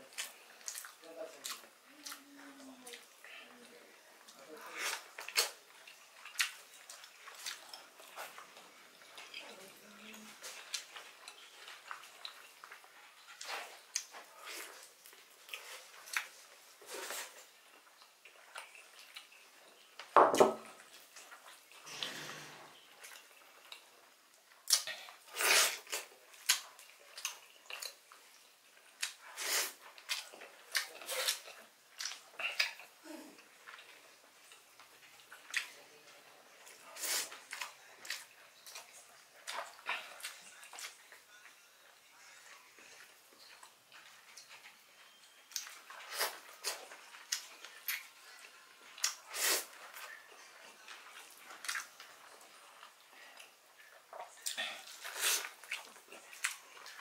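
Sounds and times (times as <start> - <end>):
wet chewing and lip-smacking: 0.1 - 20.1, 22.8 - 35.8, 36.6 - 41.6, 42.5 - 57.0.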